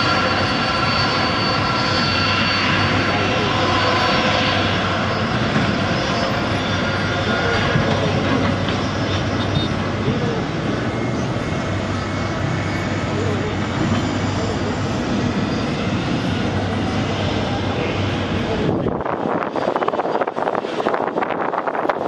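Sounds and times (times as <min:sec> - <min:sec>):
jet engines at taxi thrust: 0:00.0 - 0:22.0.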